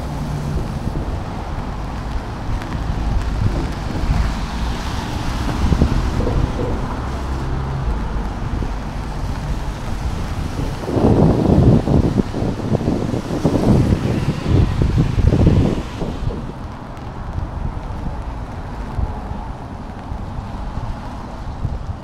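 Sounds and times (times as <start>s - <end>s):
low engine hum: 0.0s - 22.0s
street traffic on wet road: 0.0s - 22.0s
wind buffeting microphone: 0.0s - 22.0s.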